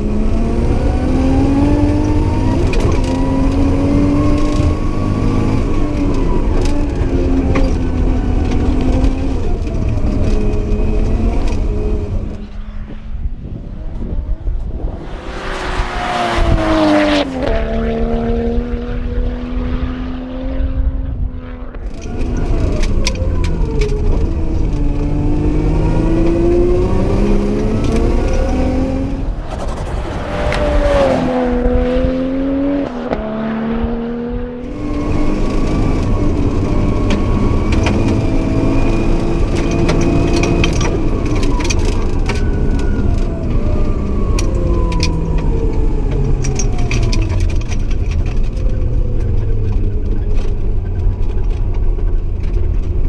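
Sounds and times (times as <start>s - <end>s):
car engine accelerating: 0.0s - 52.8s.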